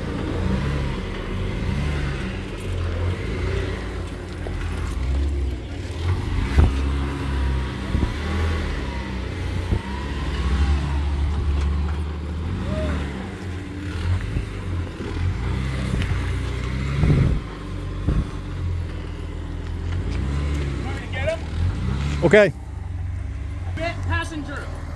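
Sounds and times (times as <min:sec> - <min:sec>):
engine revving under load: 0:00.0 - 0:24.9.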